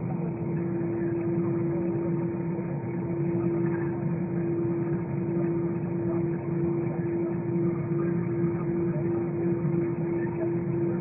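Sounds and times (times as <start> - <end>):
airplane engine drone in cabin: 0.0 - 11.0.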